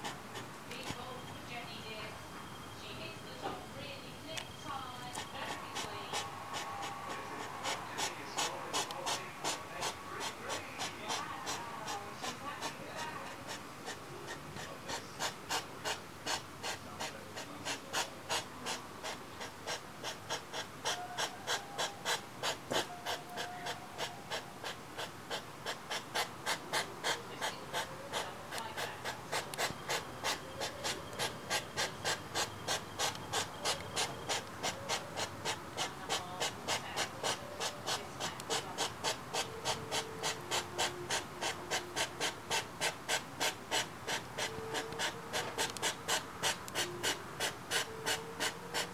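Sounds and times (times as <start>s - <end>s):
hedgehog huffing puffs: 4.7s - 48.9s.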